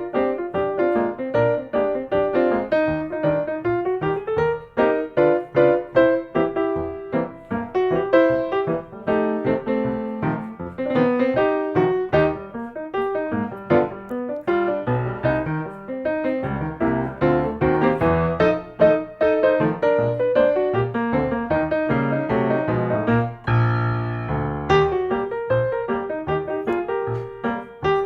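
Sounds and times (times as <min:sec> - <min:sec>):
piano melody with beat: 0:00.0 - 0:28.0.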